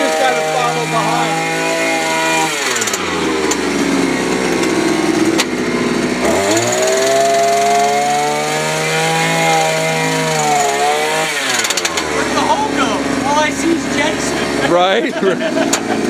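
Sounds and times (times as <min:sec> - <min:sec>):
small gasoline engine revving: 0:00.0 - 0:16.0.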